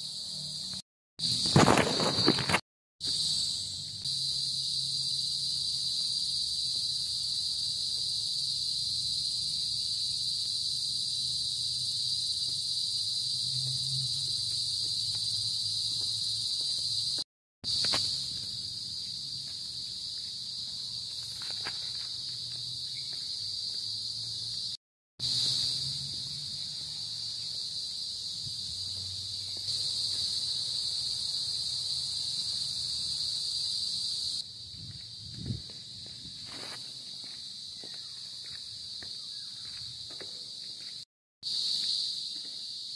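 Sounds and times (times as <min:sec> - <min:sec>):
insects buzzing: 0:00.0 - 0:42.9.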